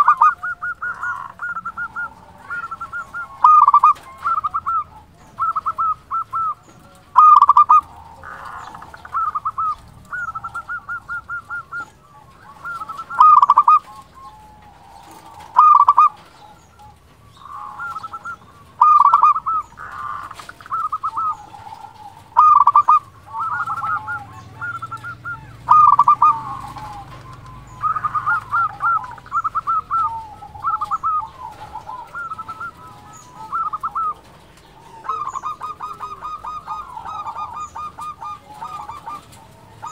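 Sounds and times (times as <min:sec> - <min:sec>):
zebra dove cooing: 0:00.0 - 0:39.9.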